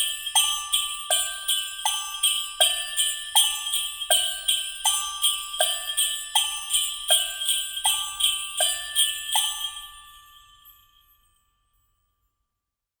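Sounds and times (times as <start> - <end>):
jingle bell strikes: 0.0 - 12.3
glockenspiel-like ringing notes: 0.0 - 12.7.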